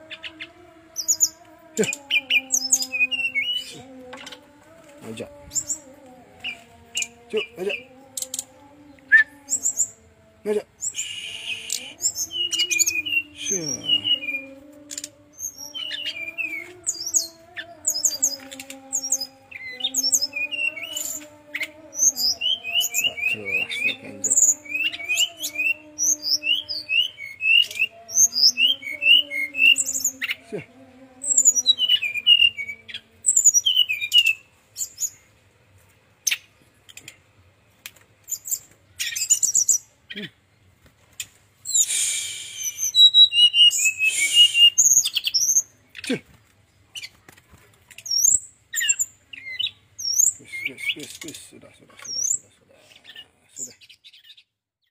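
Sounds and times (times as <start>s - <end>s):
bird singing: 0.0s - 35.3s, 36.2s - 40.8s, 41.6s - 47.3s, 47.9s - 54.6s.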